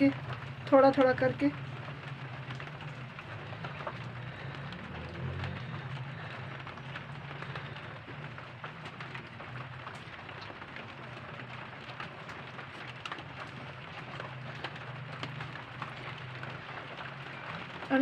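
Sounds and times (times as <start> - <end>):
low steady hum: 0.0 - 18.0
soup boiling and popping: 0.0 - 18.0.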